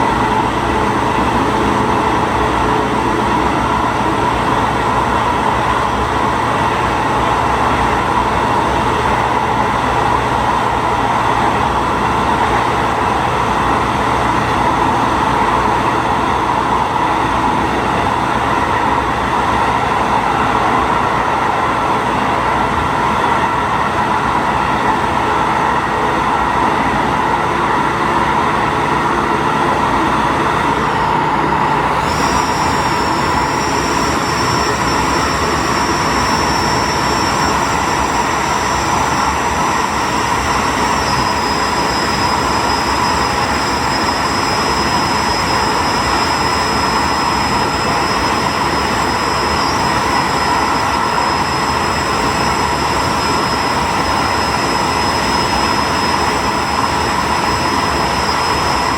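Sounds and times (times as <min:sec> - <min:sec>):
diesel train engine: 0:00.0 - 0:58.9
thin high whine: 0:00.0 - 0:58.9
wheels on rails: 0:00.0 - 0:58.9.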